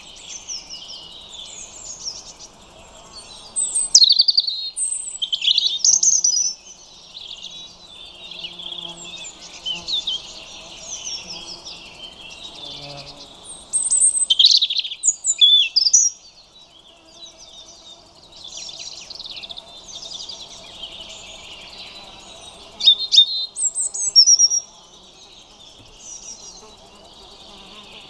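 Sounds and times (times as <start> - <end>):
faint bird song: 0.0 - 28.0
robin singing: 0.0 - 28.0.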